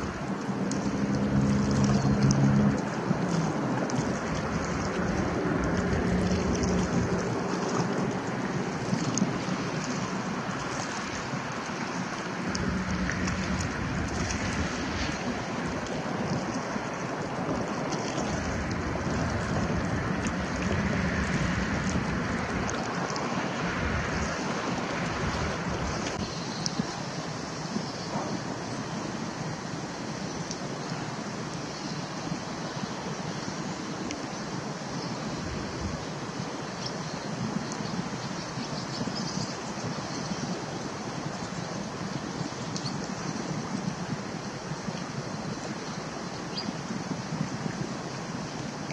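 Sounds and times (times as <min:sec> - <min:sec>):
river water washing against rocks: 0:00.0 - 0:48.9
rushing outdoor background noise: 0:00.0 - 0:48.9
wind rumbling on microphone: 0:00.0 - 0:48.9.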